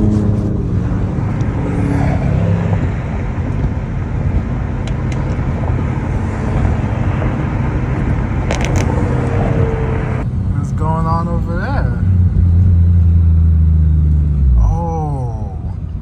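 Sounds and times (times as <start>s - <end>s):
din of running cars: 0.0s - 16.0s.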